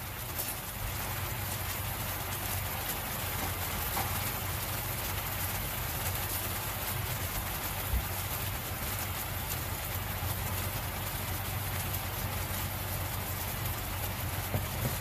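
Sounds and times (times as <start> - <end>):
meat simmering in a frying pan: 0.0 - 15.0.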